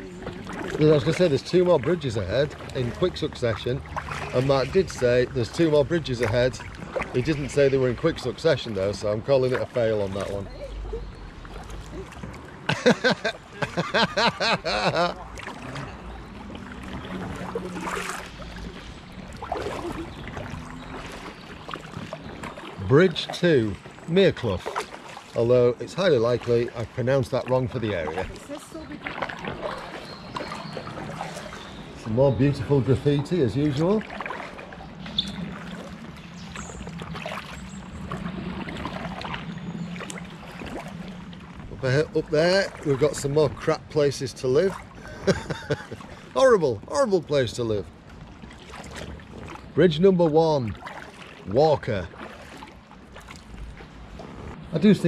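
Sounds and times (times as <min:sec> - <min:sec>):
paddle splashing and dripping: 0:00.0 - 0:55.0.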